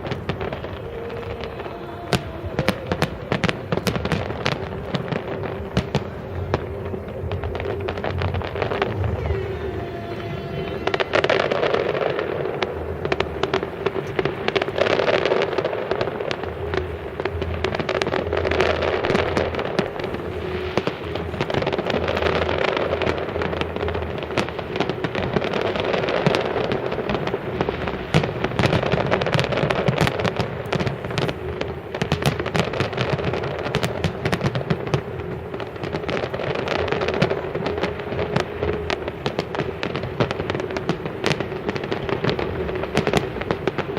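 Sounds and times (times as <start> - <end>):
fireworks bangs and crackling: 0.0 - 43.9
steady tone: 0.0 - 43.9.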